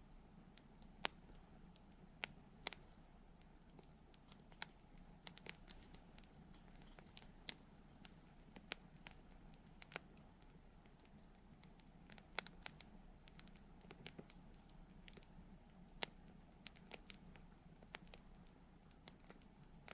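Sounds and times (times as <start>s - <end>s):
faint low hiss: 0.0s - 19.9s
campfire crackling and popping: 0.4s - 19.9s.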